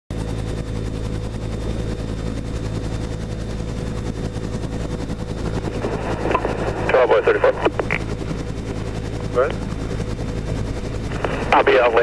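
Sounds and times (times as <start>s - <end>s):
helicopter rotor and turbine drone: 0.1s - 12.0s.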